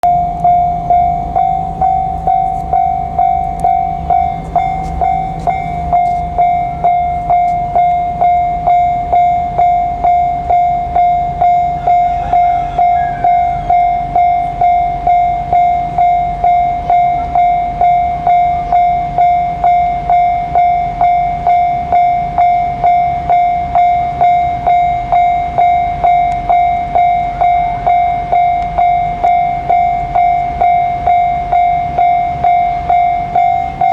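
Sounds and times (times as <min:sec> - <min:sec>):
level-crossing alarm bell: 0:00.0 - 0:33.9
train rumble: 0:00.0 - 0:33.9.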